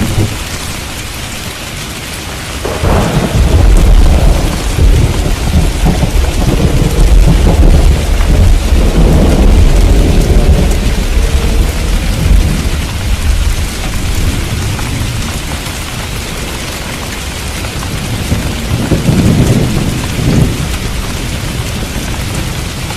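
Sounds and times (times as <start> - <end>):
low rolling thunder: 0.0 - 1.1, 2.2 - 22.9
heavy rain falling: 0.0 - 22.9.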